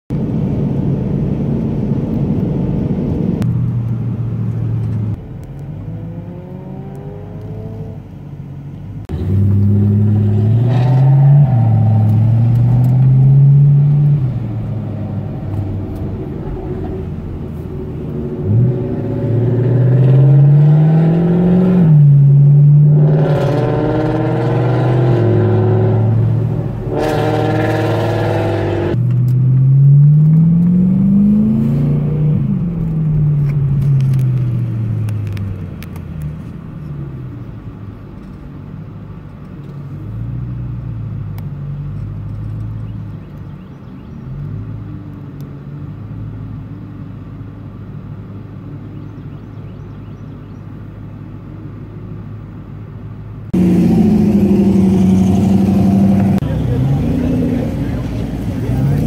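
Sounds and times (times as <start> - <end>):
car engine pulling through gears: 0.2 - 59.0.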